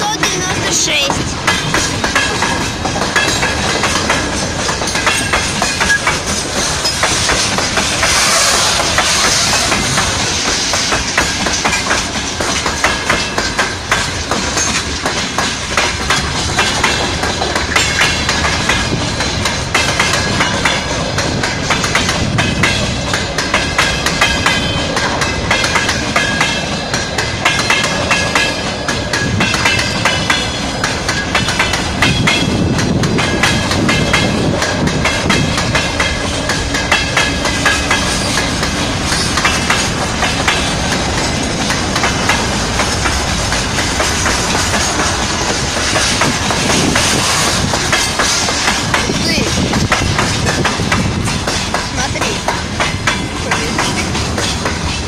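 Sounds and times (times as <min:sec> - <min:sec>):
train wheels clattering: 0:00.0 - 0:55.0.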